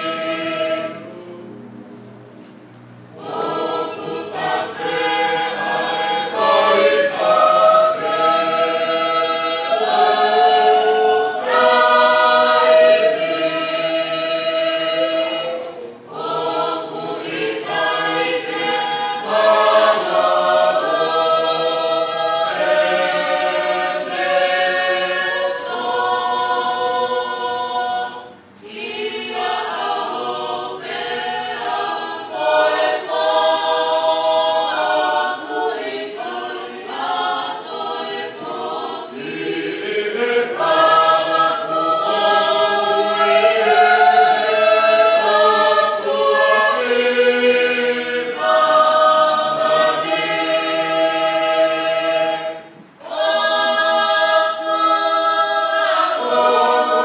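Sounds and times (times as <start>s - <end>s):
choir singing a hymn a cappella: 0.0s - 2.2s, 2.9s - 57.0s.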